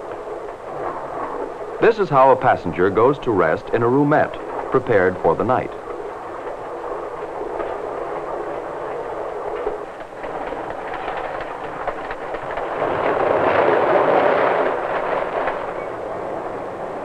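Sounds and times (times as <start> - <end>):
passenger train rumbling on rails: 0.0 - 17.0.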